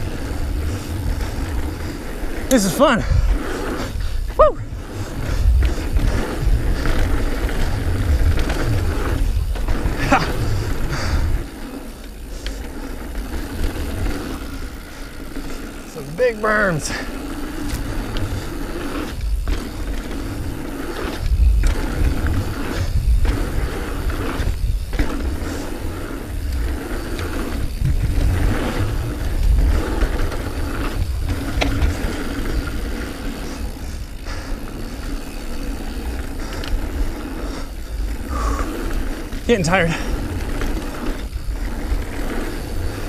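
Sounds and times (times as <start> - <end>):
bike rattling: 0.0 - 43.0
bike tyres rolling on dirt: 0.0 - 43.0
wind rumble on microphone: 0.0 - 43.0.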